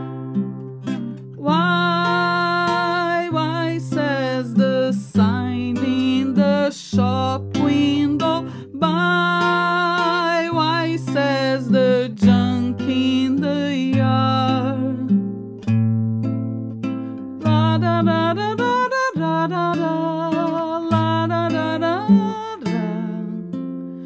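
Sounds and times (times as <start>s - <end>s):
acoustic guitar strumming: 0.0s - 24.0s
woman singing wordless melody: 1.4s - 15.4s, 17.4s - 23.6s.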